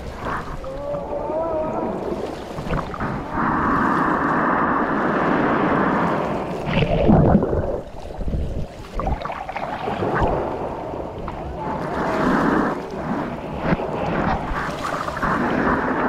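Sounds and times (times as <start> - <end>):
shallow surf splashing: 0.0 - 16.0.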